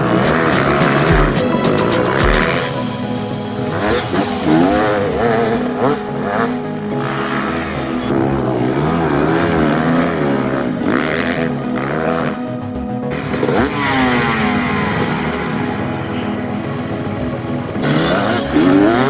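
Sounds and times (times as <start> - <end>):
dirt bike engines revving: 0.0 - 12.5, 13.1 - 19.0
background music: 0.0 - 19.0.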